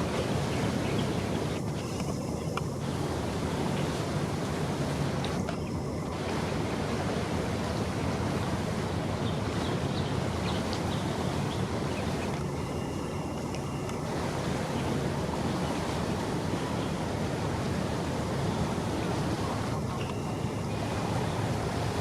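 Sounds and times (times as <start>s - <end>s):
boat engine drone: 0.0s - 22.0s
rush of wind: 0.0s - 22.0s
rushing water: 0.0s - 22.0s.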